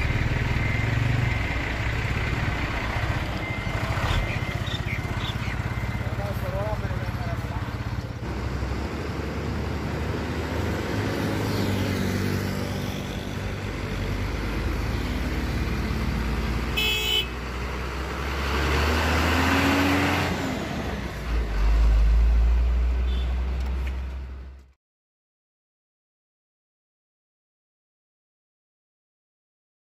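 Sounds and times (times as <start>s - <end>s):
diesel truck driving past: 0.0s - 24.6s.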